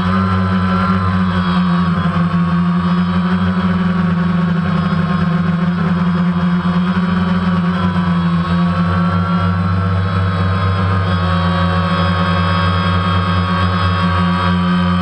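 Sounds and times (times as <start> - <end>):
drone motors humming: 0.0 - 15.0.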